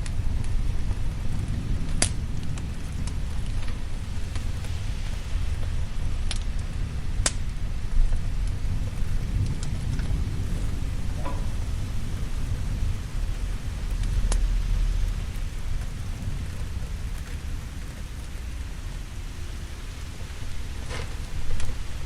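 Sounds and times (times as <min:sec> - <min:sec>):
low thunder rumbling: 0:00.0 - 0:22.0
steady rain: 0:00.0 - 0:22.0
wood fire crackle: 0:00.0 - 0:22.0.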